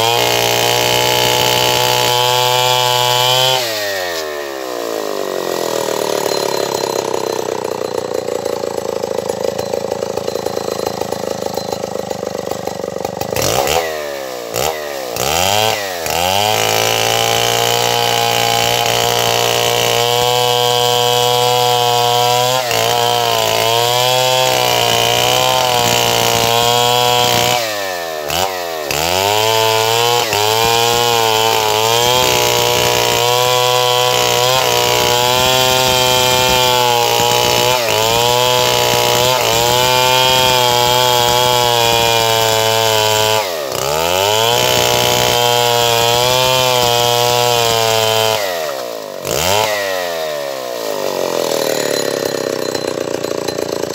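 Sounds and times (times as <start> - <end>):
chainsaw running at high speed: 0.0 - 53.9.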